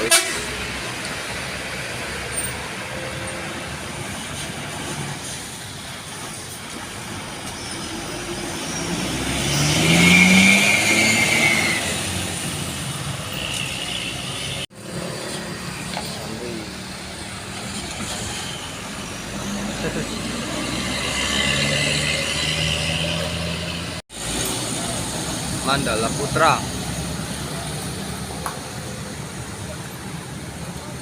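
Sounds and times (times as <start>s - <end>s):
bus engine accelerating past: 0.0s - 31.0s
road traffic: 0.0s - 31.0s.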